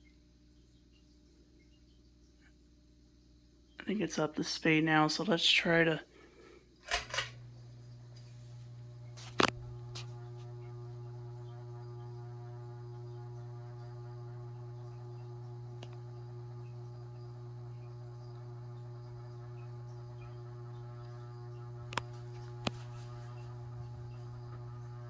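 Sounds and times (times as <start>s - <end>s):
ceiling fan motor humming: 3.8s - 25.0s.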